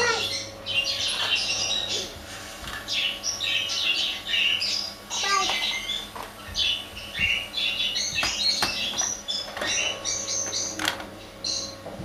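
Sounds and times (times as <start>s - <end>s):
budgerigar chirping and warbling: 0.0s - 2.1s, 2.9s - 10.8s.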